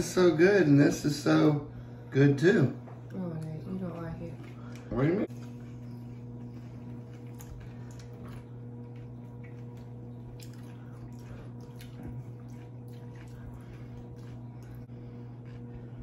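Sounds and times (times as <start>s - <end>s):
steady low hum: 0.0s - 16.0s
wet chewing sounds: 3.0s - 16.0s.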